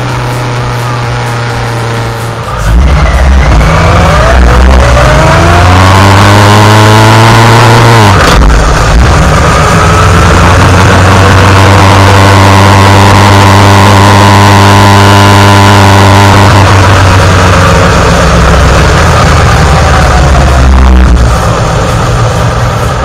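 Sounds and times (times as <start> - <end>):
motorcycle engine running: 0.0 - 23.0
rushing noise: 0.0 - 23.0.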